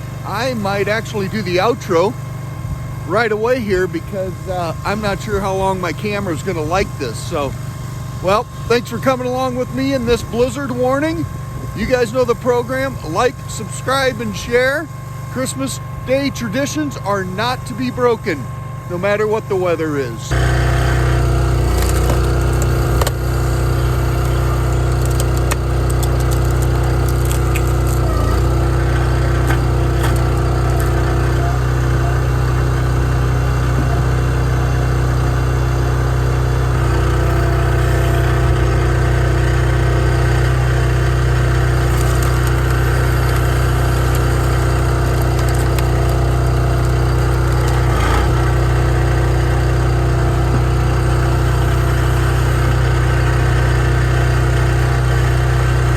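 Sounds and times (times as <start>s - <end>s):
firewood splitter engine running: 0.0s - 55.9s.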